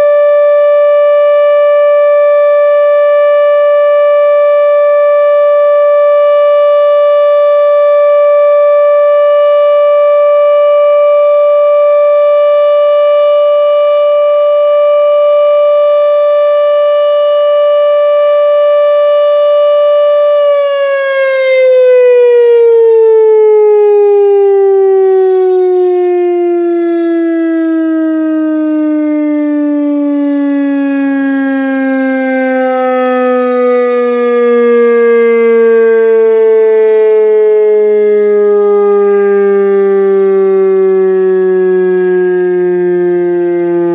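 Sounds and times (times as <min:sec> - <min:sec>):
warning siren winding down: 0:00.0 - 0:43.9.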